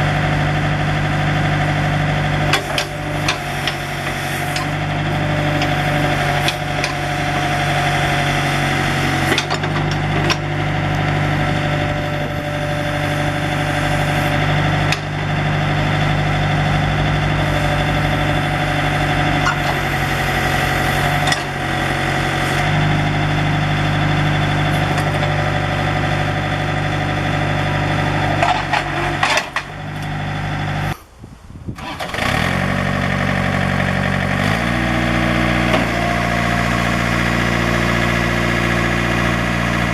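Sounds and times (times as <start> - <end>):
diesel engine running: 0.0 - 31.2, 31.8 - 39.9.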